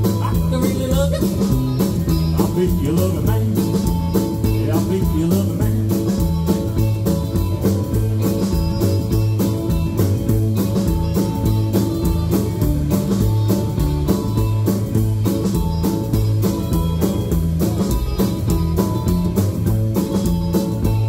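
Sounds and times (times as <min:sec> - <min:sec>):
drums steady beat: 0:00.0 - 0:21.0
electric guitar: 0:00.0 - 0:21.0
rockabilly band instrumental: 0:00.0 - 0:21.0.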